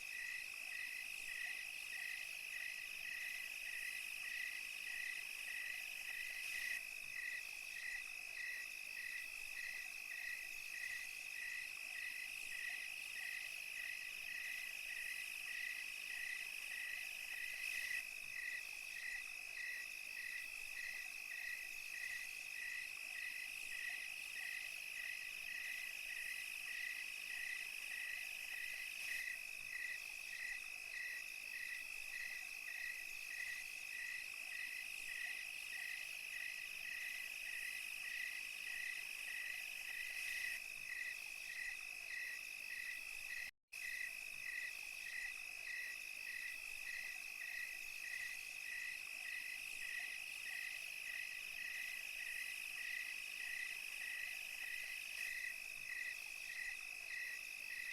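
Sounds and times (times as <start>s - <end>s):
cricket chirping: 0.0s - 57.9s
faint high insect hiss: 0.0s - 57.9s
insects trilling: 0.0s - 57.9s.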